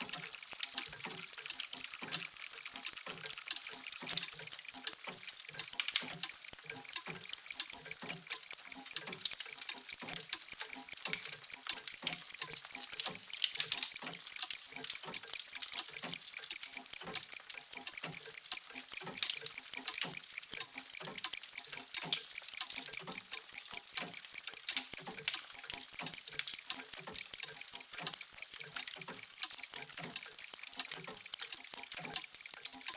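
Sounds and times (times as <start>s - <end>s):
many clocks ticking: 0.0s - 32.9s.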